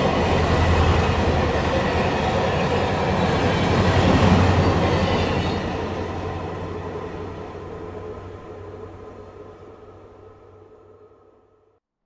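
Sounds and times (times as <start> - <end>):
train rumbling on rails: 0.0 - 11.5.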